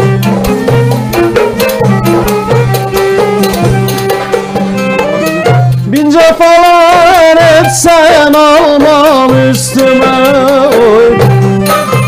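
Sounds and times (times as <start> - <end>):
hand drums: 0.0 - 12.0
violin melody with vibrato: 0.0 - 12.0.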